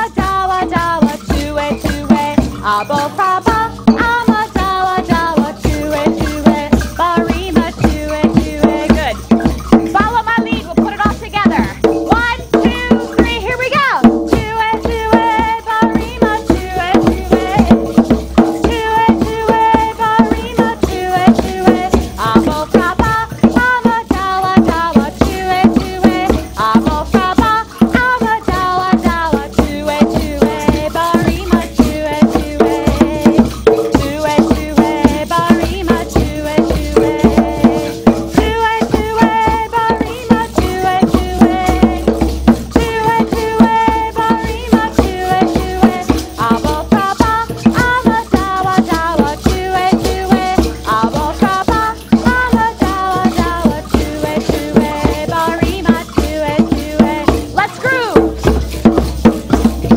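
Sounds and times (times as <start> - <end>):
group of voices singing: 0.0 - 13.6, 14.3 - 58.2
shakers and drums rhythm: 0.0 - 59.9
woman singing: 0.0 - 59.9.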